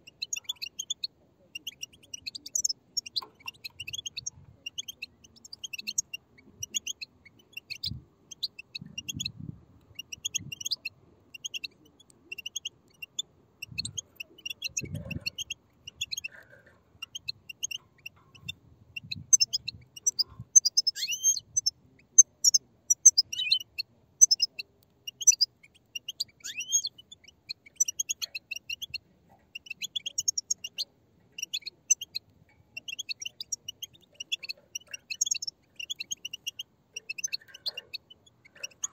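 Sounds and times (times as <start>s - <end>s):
bird chicks chattering: 0.0s - 38.9s.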